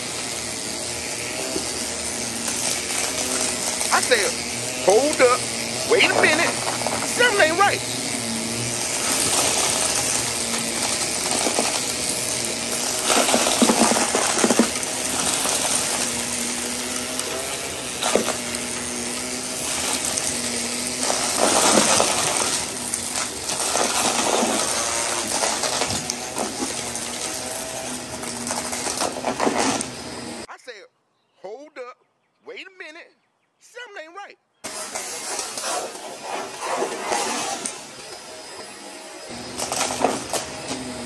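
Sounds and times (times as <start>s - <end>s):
debris rattling in vacuum: 0.0s - 30.4s, 34.7s - 38.6s, 39.3s - 41.0s
vacuum cleaner motor hum: 0.0s - 30.5s, 34.6s - 41.0s.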